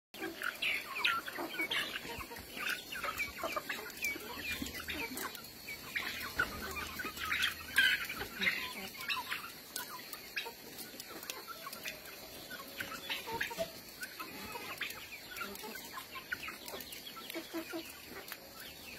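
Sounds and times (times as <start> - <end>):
chickens clucking: 0.2 - 18.9.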